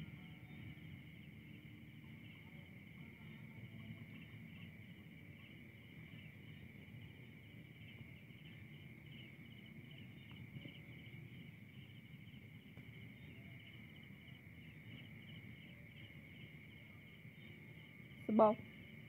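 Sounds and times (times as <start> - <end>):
crickets trilling: 0.0 - 19.0
low background rumble: 0.0 - 19.0.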